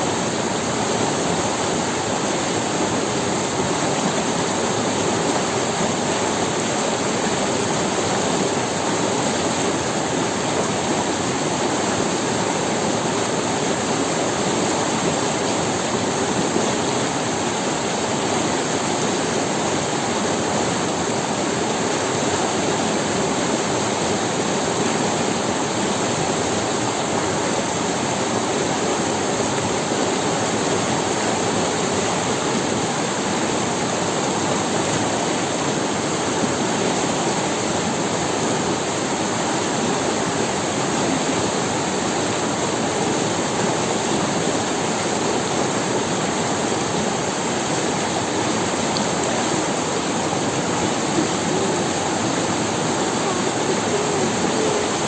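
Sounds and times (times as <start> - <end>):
river water rushing over stones: 0.0 - 55.0.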